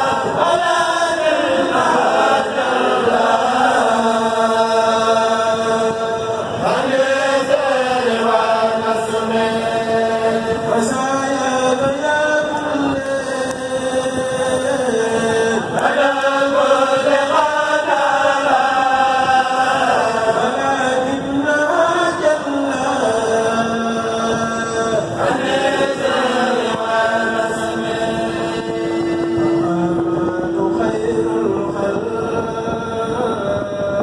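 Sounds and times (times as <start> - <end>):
men chanting into microphones: 0.0 - 34.0.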